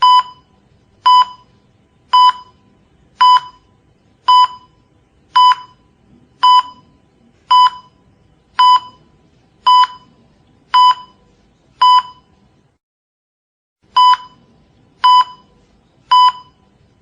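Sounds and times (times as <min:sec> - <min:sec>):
heart monitor beeping: 0:00.0 - 0:11.2, 0:11.8 - 0:12.4, 0:13.9 - 0:16.8.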